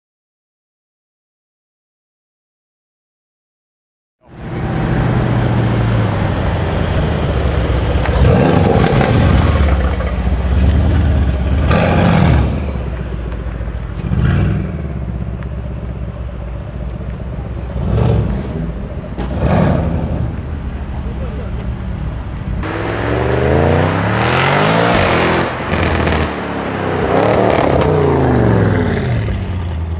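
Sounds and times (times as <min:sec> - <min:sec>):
car engine revving: 0:04.3 - 0:29.9.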